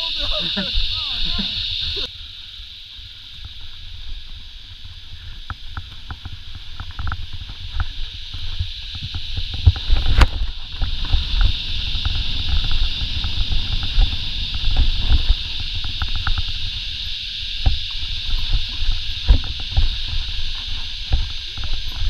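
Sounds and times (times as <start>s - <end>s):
steady high hiss: 0.0s - 22.0s
wind rumble on microphone: 0.0s - 22.0s
bike rattling and clicking: 3.2s - 22.0s.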